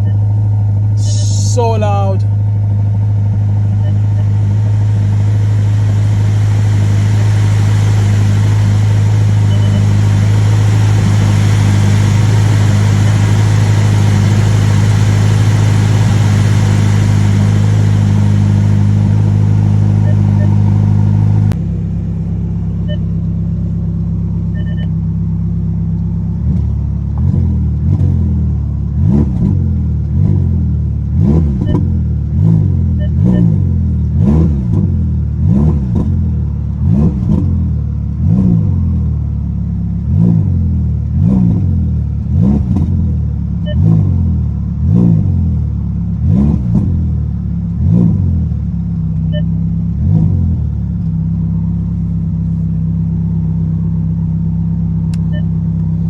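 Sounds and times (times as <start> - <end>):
engine revs blipping: 0.0 - 21.6, 22.6 - 25.4, 27.2 - 39.0, 40.0 - 47.2, 47.8 - 50.7, 54.8 - 56.0
car engine idling: 0.0 - 29.0, 36.2 - 46.2, 46.9 - 56.0.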